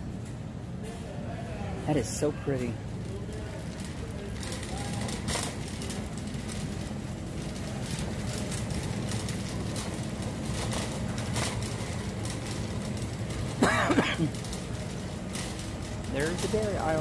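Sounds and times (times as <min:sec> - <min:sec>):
shopping cart rolling on concrete: 0:00.0 - 0:17.0.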